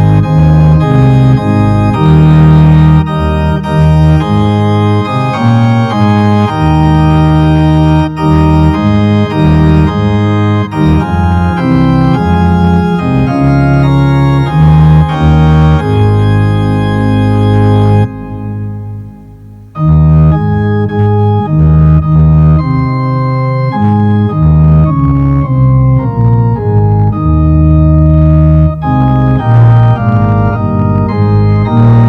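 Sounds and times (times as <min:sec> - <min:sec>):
organ playing held chords: 0:00.0 - 0:32.0.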